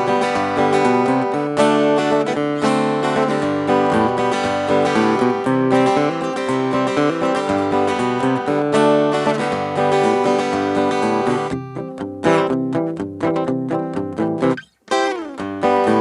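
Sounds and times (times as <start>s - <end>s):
acoustic guitar picked notes: 0.0s - 16.0s
acoustic guitar strumming chords: 0.0s - 16.0s.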